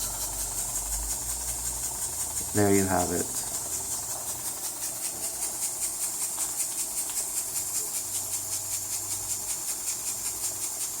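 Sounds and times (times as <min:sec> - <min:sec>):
steam engine exhaust puffs: 0:00.0 - 0:11.0.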